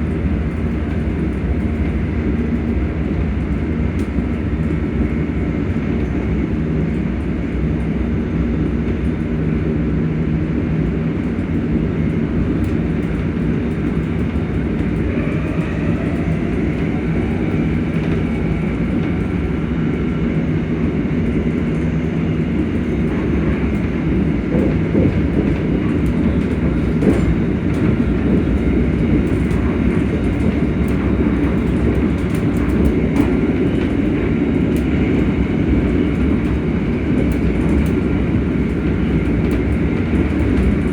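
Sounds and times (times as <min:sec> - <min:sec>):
train motors humming: 0:00.0 - 0:40.9
wheels rumbling on rails: 0:00.0 - 0:40.9.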